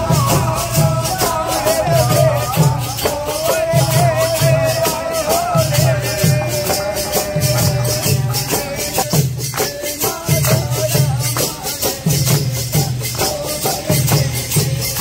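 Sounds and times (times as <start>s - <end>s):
drum beating: 0.0s - 15.0s.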